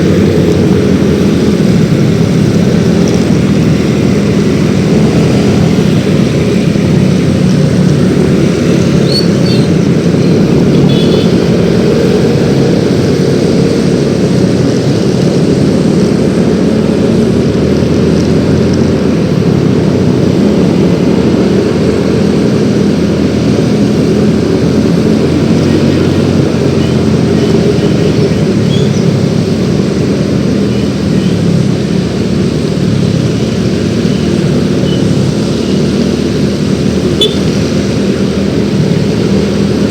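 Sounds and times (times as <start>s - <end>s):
road and wind noise: 0.0s - 39.9s
scooter engine running: 0.0s - 39.9s.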